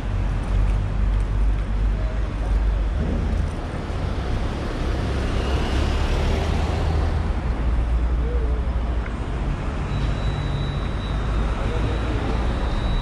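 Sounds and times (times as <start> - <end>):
vehicles passing with low rumble: 0.0 - 13.0.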